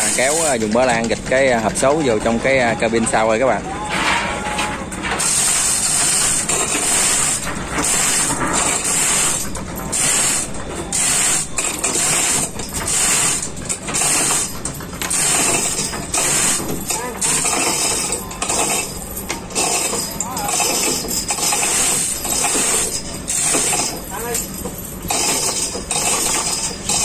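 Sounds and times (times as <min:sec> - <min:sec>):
chain rattling through hoist block: 0:00.0 - 0:04.2, 0:05.0 - 0:27.0
ratchet clicking: 0:05.2 - 0:27.0.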